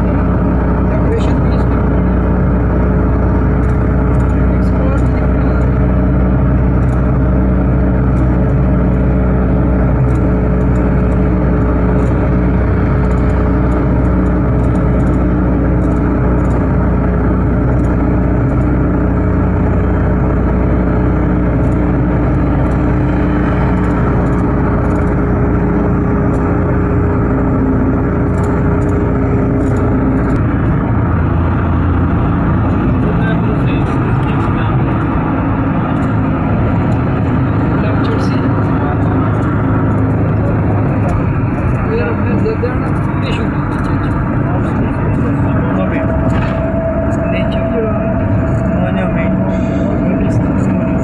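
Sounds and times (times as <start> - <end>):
car engine hum and road noise: 0.0 - 51.0
steady tone in engine hum: 0.0 - 51.0.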